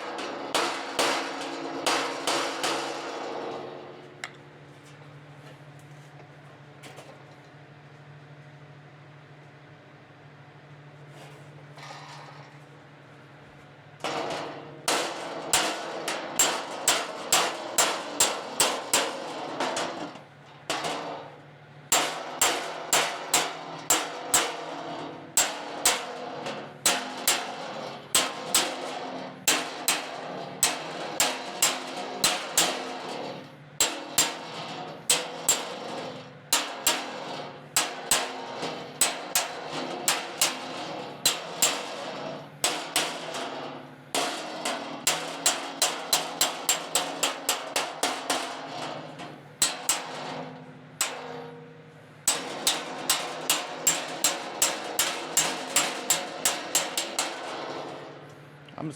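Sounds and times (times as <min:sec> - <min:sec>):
hammer tapping sheet metal: 0:00.0 - 0:04.4, 0:14.0 - 0:58.5.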